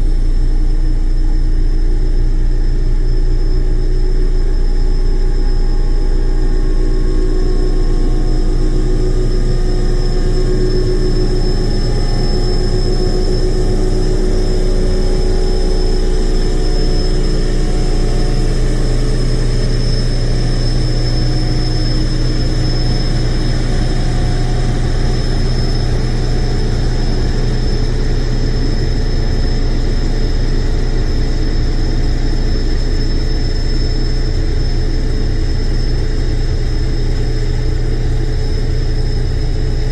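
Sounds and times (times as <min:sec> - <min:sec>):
high whine: 0:00.0 - 0:39.9.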